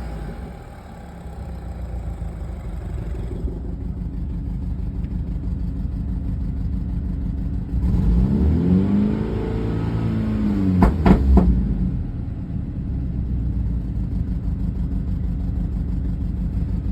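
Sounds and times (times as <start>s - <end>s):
car engine idling and revving: 0.0s - 16.9s.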